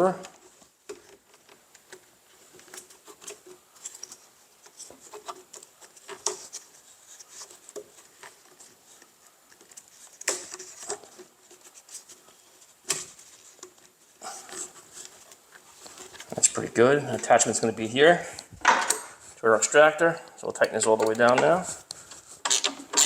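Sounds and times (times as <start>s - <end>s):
hose handling clicks and rustles: 0.0s - 23.0s.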